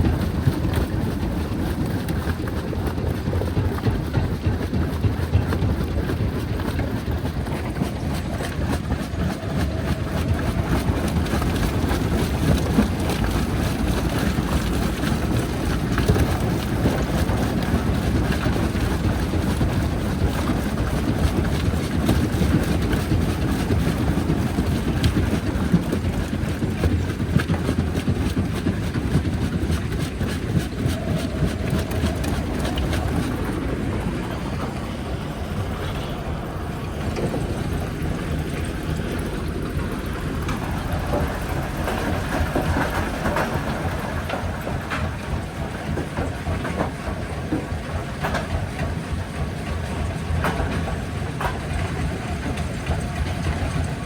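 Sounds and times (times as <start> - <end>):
jaw crusher rumbling: 0.0 - 48.4.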